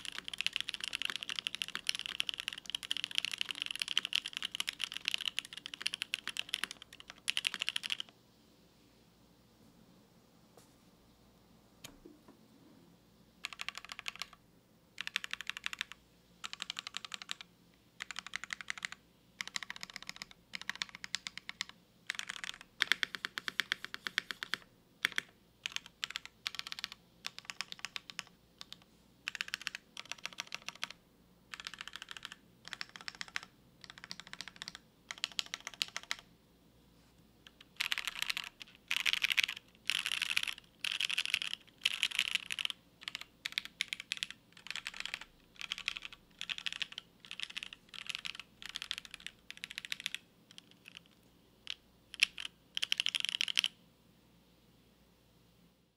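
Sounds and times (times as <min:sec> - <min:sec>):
mechanical keyboard typing: 0:00.0 - 0:08.1, 0:13.4 - 0:14.4, 0:15.0 - 0:36.3, 0:37.4 - 0:53.8.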